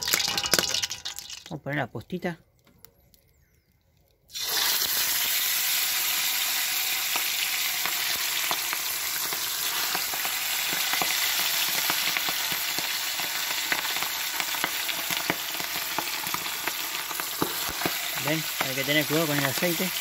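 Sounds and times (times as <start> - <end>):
fish sizzling in hot oil: 0.0 - 1.5, 4.3 - 20.0
oil crackling and popping: 0.0 - 1.6, 4.1 - 20.0.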